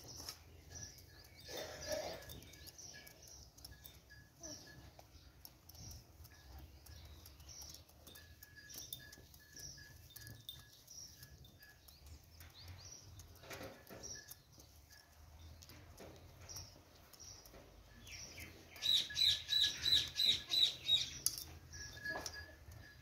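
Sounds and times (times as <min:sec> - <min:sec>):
hens pecking taps: 0:00.0 - 0:23.0.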